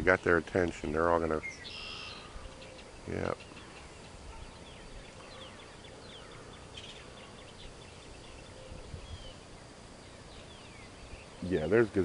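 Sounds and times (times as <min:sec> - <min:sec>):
marsh birds chirping and calling: 0:00.0 - 0:12.0
steady background hiss: 0:00.0 - 0:12.0.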